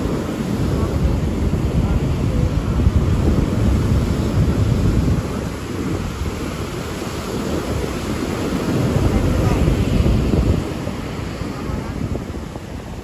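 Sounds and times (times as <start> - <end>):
surf breaking on beach: 0.0 - 13.0
wind on microphone: 0.0 - 13.0.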